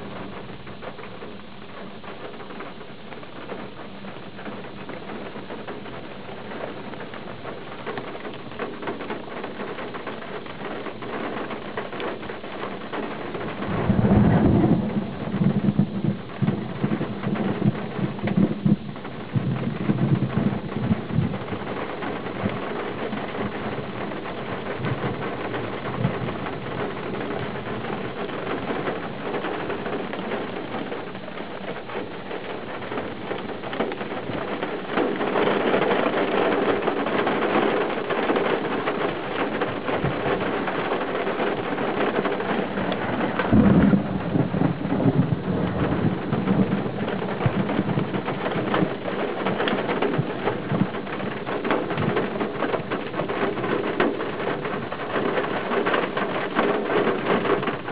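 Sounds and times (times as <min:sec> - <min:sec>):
heavy rain falling: 0:00.0 - 0:57.9
thunder rumbling: 0:00.0 - 0:57.9.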